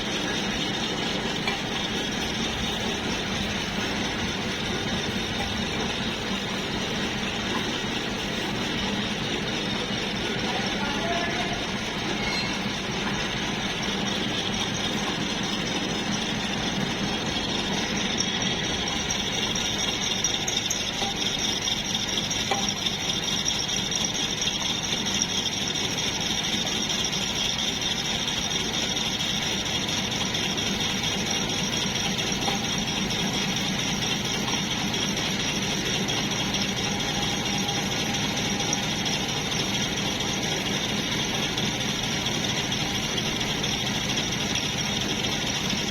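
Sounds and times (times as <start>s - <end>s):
metalworking machine running: 0.0s - 45.9s.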